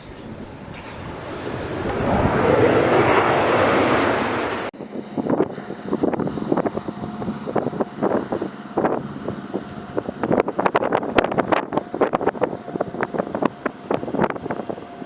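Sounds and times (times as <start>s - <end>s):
jet airliner roar: 0.0s - 15.0s
wind buffeting microphone: 0.0s - 15.0s.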